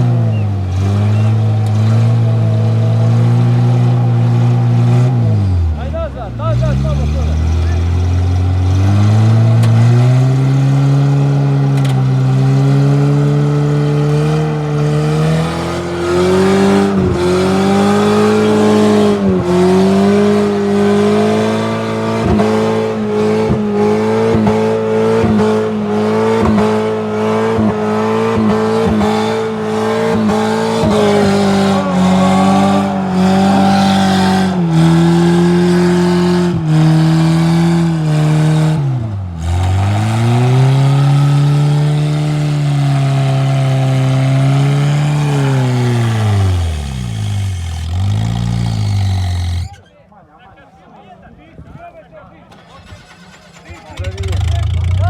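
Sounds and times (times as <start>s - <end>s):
off-road vehicle engine revving: 0.0s - 49.9s, 52.5s - 55.0s.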